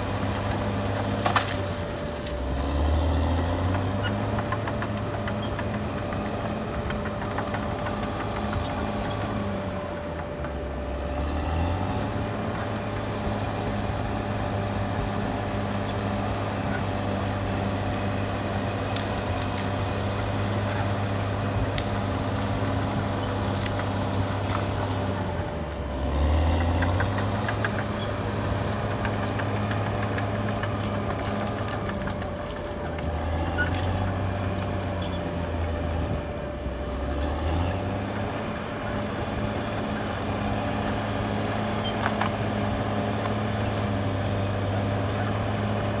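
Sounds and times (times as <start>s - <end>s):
bulldozer diesel engine running: 0.0s - 46.0s.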